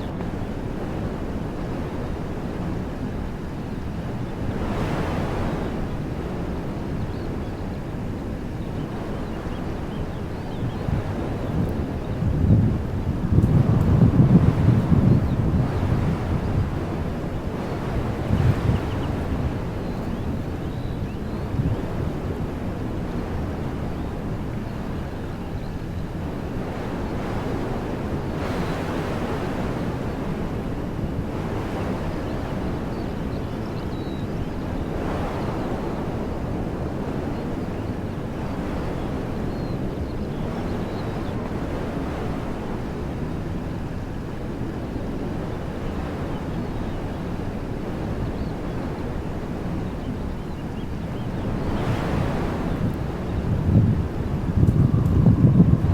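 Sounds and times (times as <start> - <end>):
wind blowing through trees: 0.0 - 55.9
wind rumble on microphone: 0.0 - 55.9.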